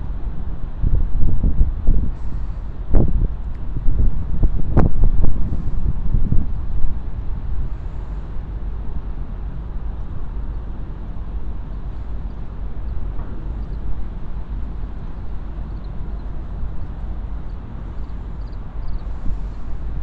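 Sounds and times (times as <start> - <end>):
wind buffeting microphone: 0.0 - 20.0
ship engines rumbling: 0.1 - 20.0.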